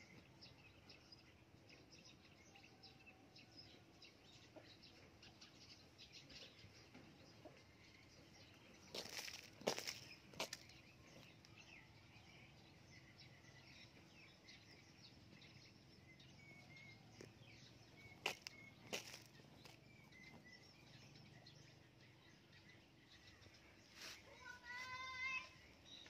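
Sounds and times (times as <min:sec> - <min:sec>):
bird chirps: 0:00.0 - 0:26.0.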